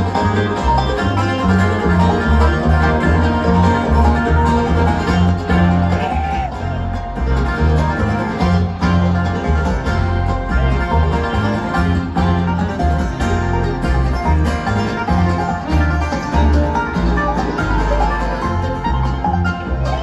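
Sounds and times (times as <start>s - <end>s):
bluegrass band playing: 0.0s - 20.0s.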